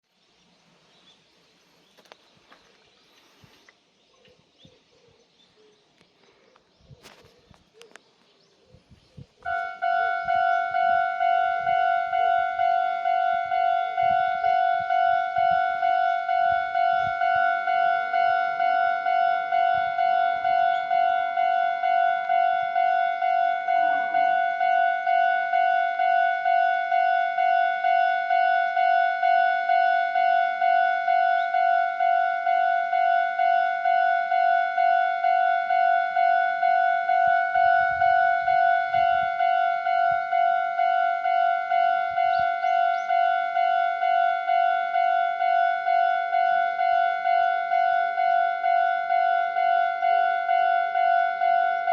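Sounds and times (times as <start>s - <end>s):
level crossing warning bell: 9.4s - 51.9s.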